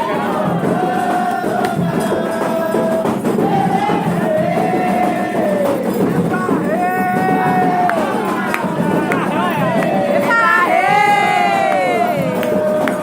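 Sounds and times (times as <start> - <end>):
group chanting in long notes: 0.0 - 13.0
hand percussion: 0.0 - 13.0.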